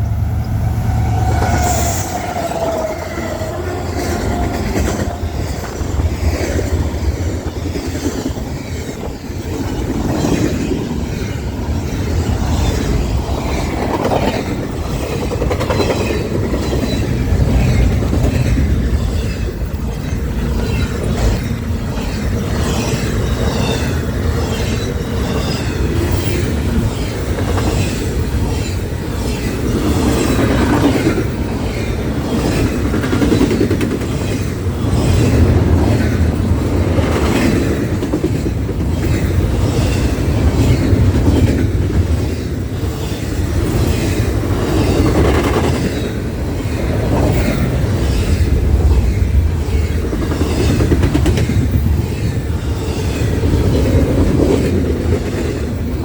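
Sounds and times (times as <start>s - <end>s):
train rolling rumble: 0.0s - 56.0s
train wheels clicking over rail joints: 0.0s - 56.0s.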